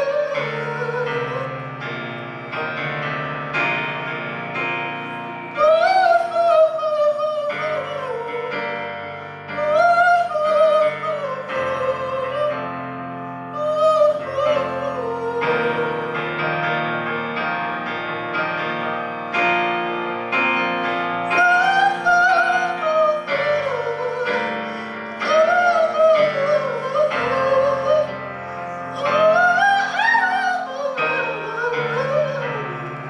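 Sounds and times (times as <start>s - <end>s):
person singing with vibrato: 0.0s - 33.0s
piano chords: 0.0s - 33.0s.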